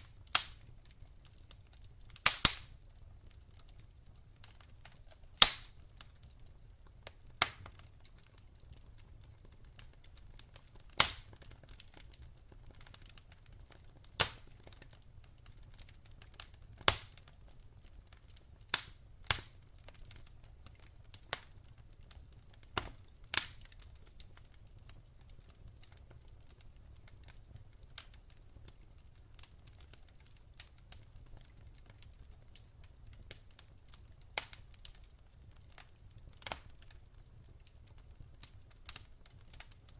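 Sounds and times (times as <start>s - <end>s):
burning wood popping: 0.0s - 39.9s
campfire crackling: 0.0s - 39.9s.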